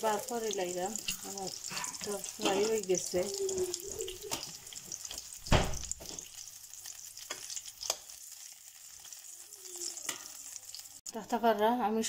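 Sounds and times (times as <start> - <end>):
kebabs sizzling in hot oil: 0.0 - 12.0.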